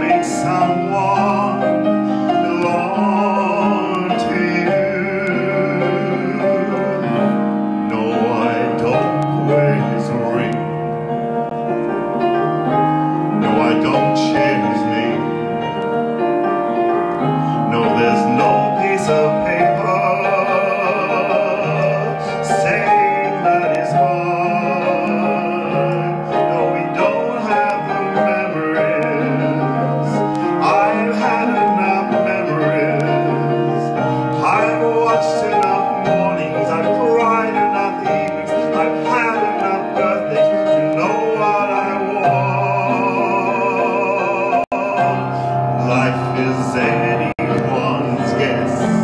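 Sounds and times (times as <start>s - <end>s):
man singing with vibrato: 0.0s - 16.3s, 17.2s - 49.0s
backing track music: 0.0s - 49.0s
instrumental accompaniment: 0.0s - 49.0s.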